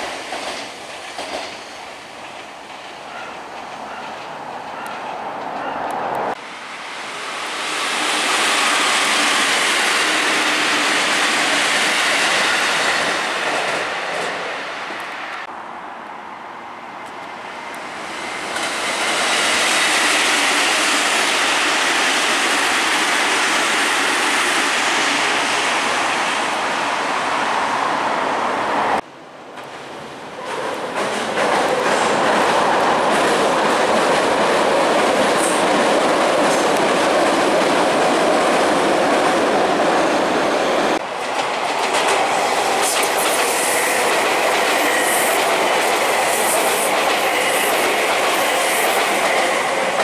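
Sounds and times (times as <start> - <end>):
train wheels rushing on rail: 0.0 - 15.5, 17.0 - 50.0.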